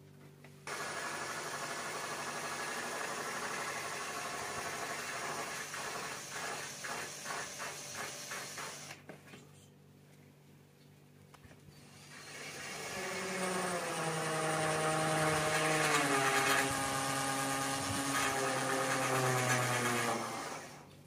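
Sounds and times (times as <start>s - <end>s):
cordless drill driving a screw: 0.7s - 9.0s, 11.8s - 20.9s.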